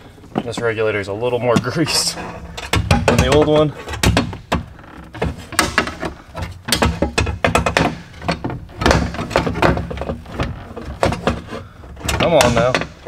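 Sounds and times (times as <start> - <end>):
metal clunks clicks and rattles: 1.6 - 13.0.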